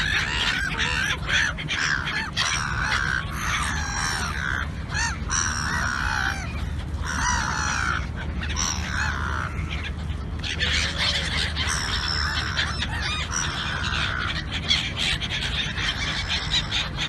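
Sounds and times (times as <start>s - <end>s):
birds squawking: 0.0s - 17.0s.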